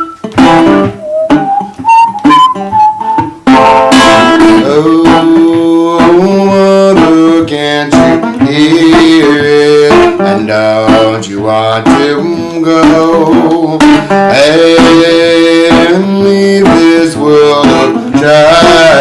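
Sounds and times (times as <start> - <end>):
acoustic gospel guitar music: 0.0 - 19.0.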